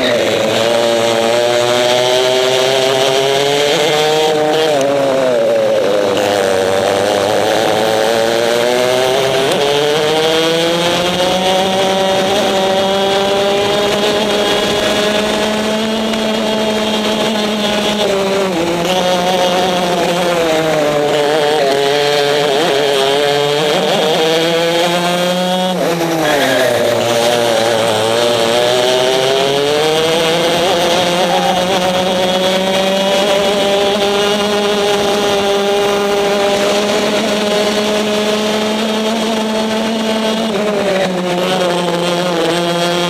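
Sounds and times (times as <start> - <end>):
racing kart engine revving: 0.0 - 43.0.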